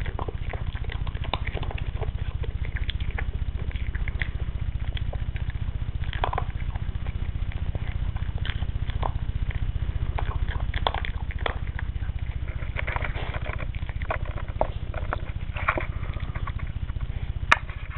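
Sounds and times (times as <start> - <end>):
dog chewing dry kibble: 0.0 - 17.9
low hum: 0.0 - 17.9.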